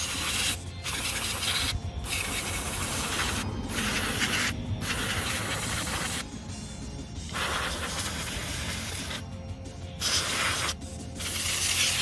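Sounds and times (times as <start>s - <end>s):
aerosol can spraying: 0.0s - 6.2s, 7.3s - 9.3s, 10.0s - 12.0s.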